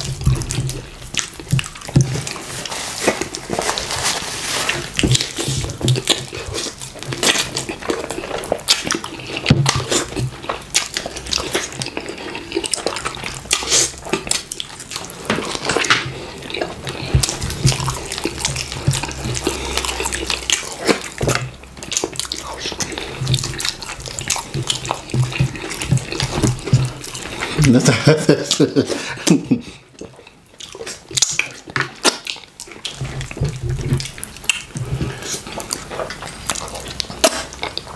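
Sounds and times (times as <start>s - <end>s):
wet eating sounds: 0.0s - 37.9s.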